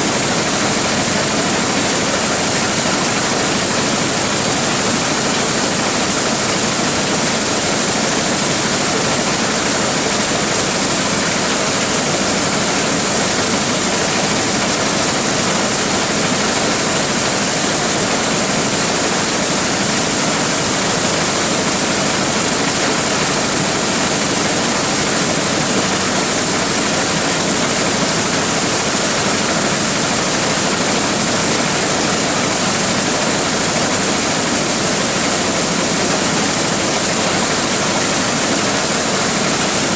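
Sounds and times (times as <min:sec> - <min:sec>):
corn sheller machine running: 0:00.0 - 0:39.9.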